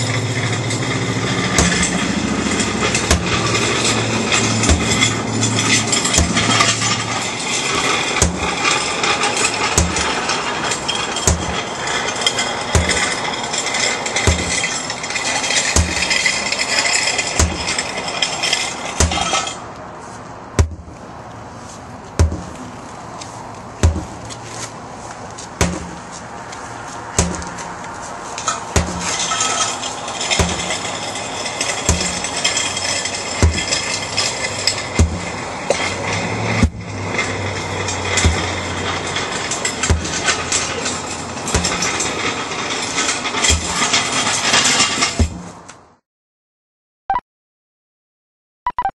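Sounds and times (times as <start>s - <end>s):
sledgehammer thudding on tire: 0.0s - 19.6s, 20.5s - 21.0s, 22.1s - 22.8s, 23.8s - 24.7s, 25.4s - 26.2s, 27.0s - 27.8s, 28.4s - 45.7s
rope scraping over asphalt: 0.0s - 45.9s.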